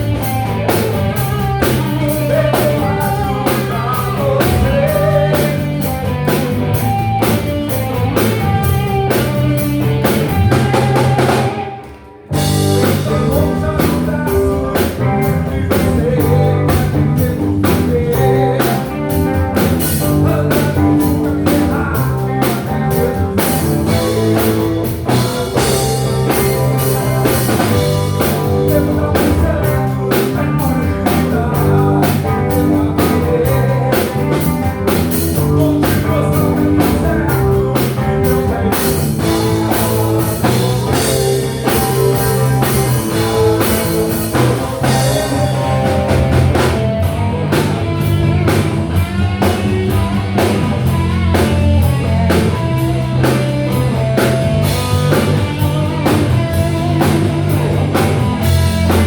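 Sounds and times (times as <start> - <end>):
drum kit beat: 0.0 - 59.0
rock band playing live: 0.0 - 59.0.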